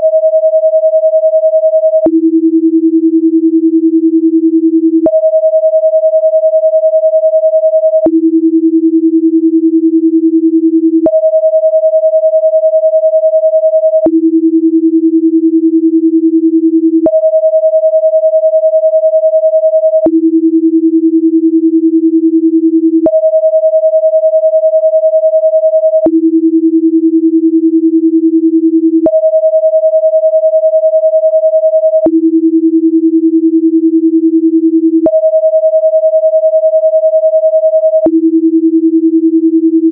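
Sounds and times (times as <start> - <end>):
pure sine tones: 0.0 - 39.9.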